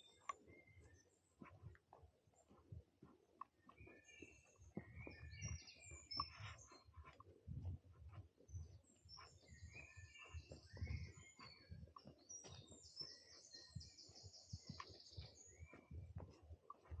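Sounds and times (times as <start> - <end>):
birds singing and chirping: 0.0 - 2.8, 3.5 - 17.0
footsteps on trail: 0.0 - 17.0.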